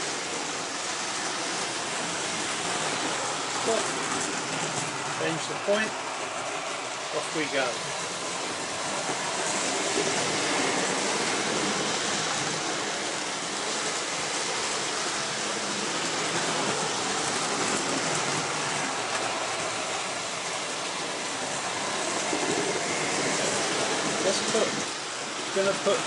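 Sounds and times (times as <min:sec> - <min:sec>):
wheels rattling over rails: 0:00.0 - 0:26.0.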